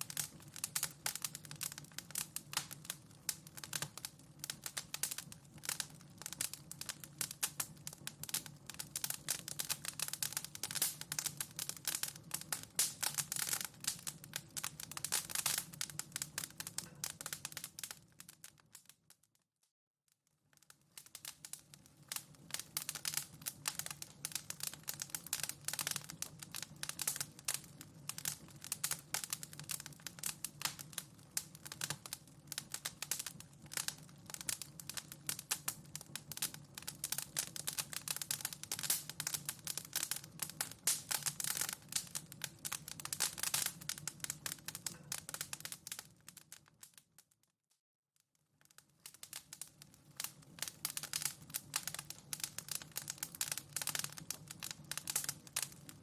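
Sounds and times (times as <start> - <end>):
wood fire crackling: 0.0 - 18.9, 20.4 - 47.2, 48.6 - 56.0.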